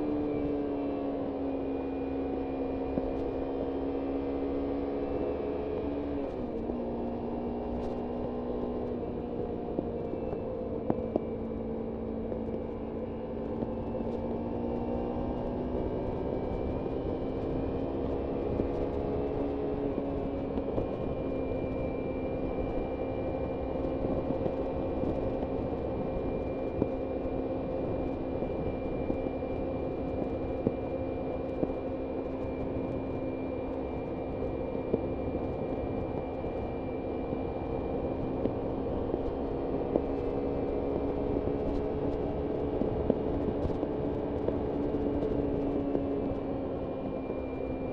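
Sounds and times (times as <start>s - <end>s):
motorcycle engine cruising: 0.0s - 47.9s
road noise: 0.0s - 47.9s
wind noise: 7.8s - 47.9s.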